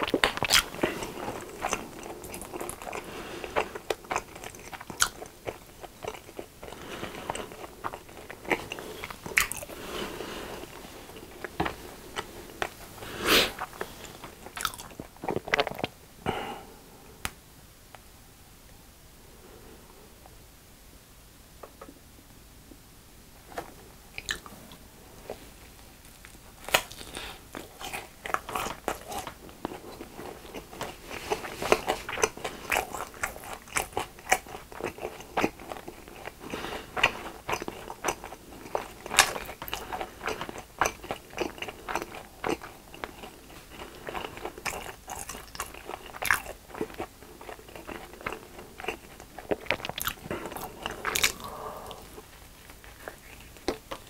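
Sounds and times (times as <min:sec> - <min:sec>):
crunchy biting and chewing: 0:00.0 - 0:15.9, 0:26.0 - 0:54.0.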